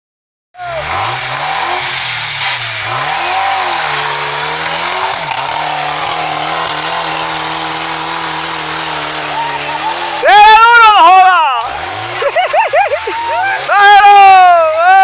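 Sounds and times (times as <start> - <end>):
engine revving: 0.6 - 14.8.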